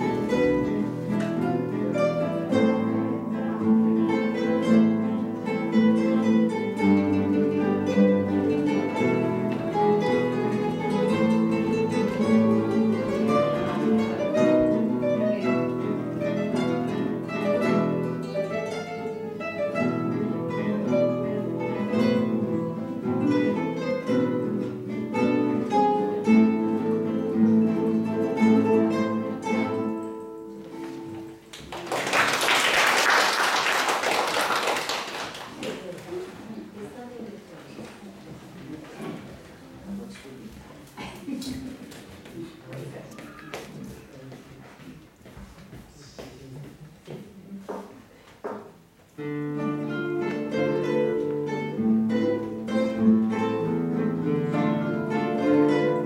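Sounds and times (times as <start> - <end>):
classical guitar ensemble: 0.0 - 56.0.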